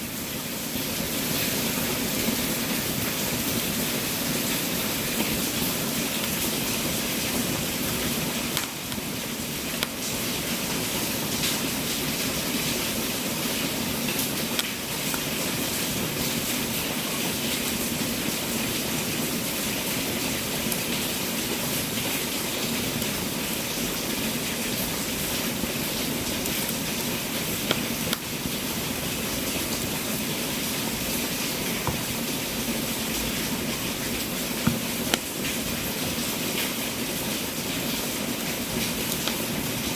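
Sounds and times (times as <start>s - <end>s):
fire crackling and popping: 0.2s - 39.9s.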